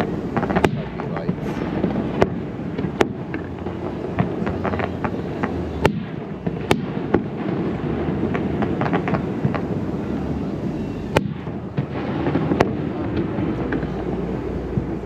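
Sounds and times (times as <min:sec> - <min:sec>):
fireworks booming: 0:00.0 - 0:15.0
fireworks crackling: 0:00.0 - 0:15.0
loud fireworks bangs: 0:00.0 - 0:15.0.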